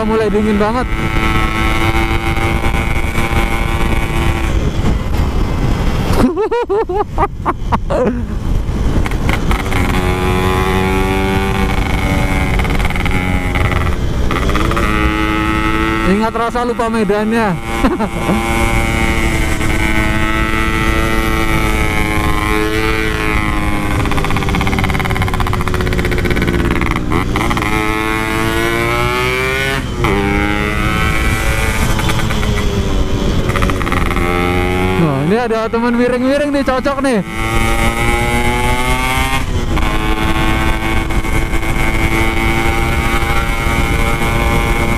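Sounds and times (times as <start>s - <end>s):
two-stroke motorcycle engine: 0.0s - 5.9s, 8.9s - 44.9s
wind rumbling on microphone: 0.0s - 44.9s.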